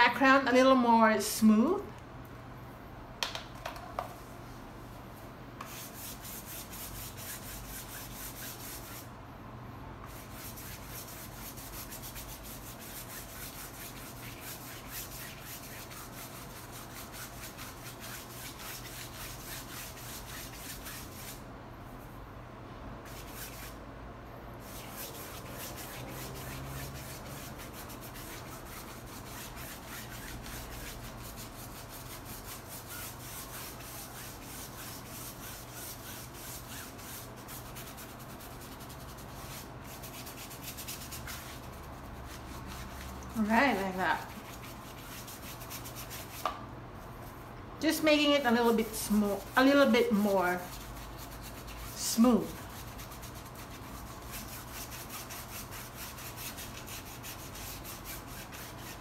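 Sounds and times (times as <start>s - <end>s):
paintbrush scratchy strokes: 5.6s - 9.1s, 10.1s - 21.4s, 23.1s - 23.8s, 24.6s - 46.4s, 48.8s - 59.0s.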